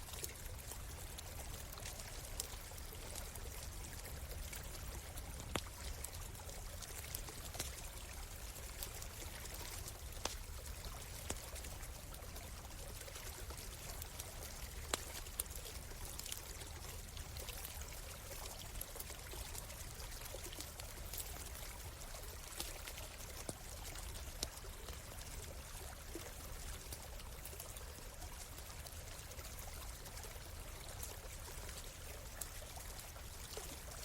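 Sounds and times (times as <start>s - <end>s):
stream flowing and trickling: 0.0s - 34.0s
campfire crackling and popping: 0.1s - 34.0s.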